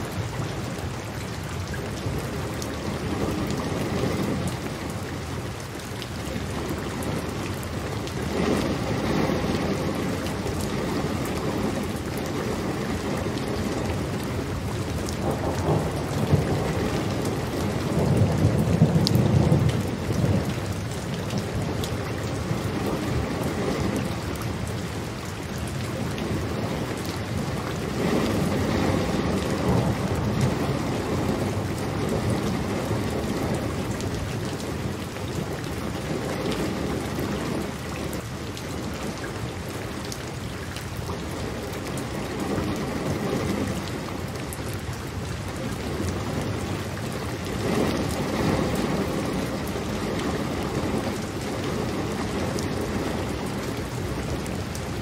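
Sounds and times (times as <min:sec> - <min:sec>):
steady rain falling: 0:00.0 - 0:55.0
low roll of thunder: 0:01.8 - 0:05.5, 0:06.3 - 0:39.6, 0:45.1 - 0:55.0.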